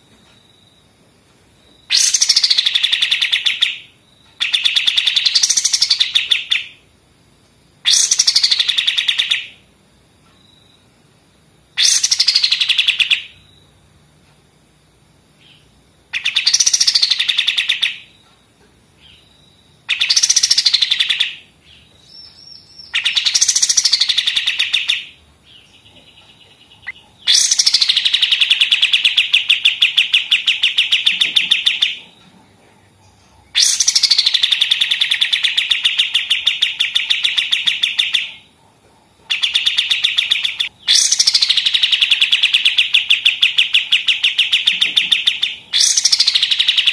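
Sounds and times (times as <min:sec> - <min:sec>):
bird singing rattling song: 0:01.7 - 0:06.9, 0:07.8 - 0:09.7, 0:11.7 - 0:13.8, 0:15.3 - 0:46.9.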